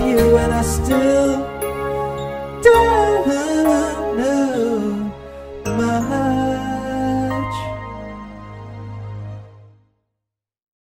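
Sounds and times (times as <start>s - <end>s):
held music chord: 0.0s - 9.8s.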